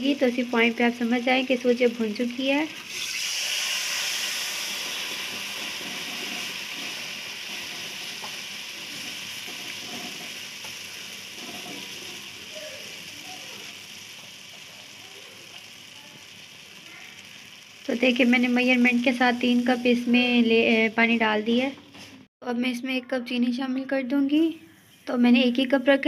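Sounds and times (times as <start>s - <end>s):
water sizzling in hot oil: 0.0s - 21.5s.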